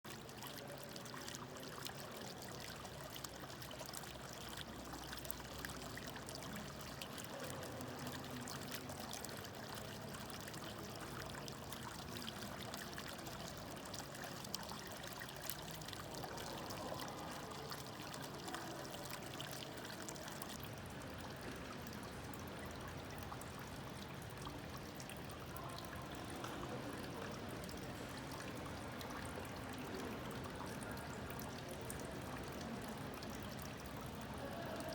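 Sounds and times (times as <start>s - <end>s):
fountain water splashing: 0.1s - 34.9s.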